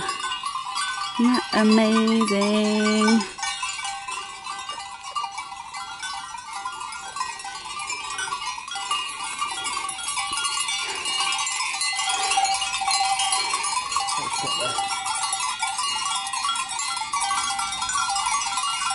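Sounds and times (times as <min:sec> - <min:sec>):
sheep bells ringing: 0:00.0 - 0:18.9.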